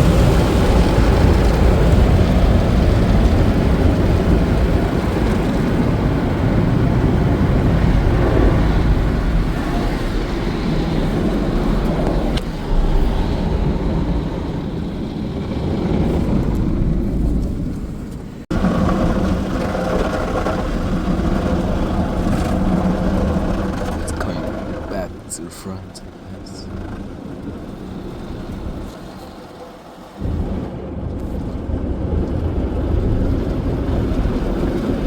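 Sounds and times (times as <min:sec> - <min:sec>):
car wash equipment rushing: 0:00.0 - 0:35.0.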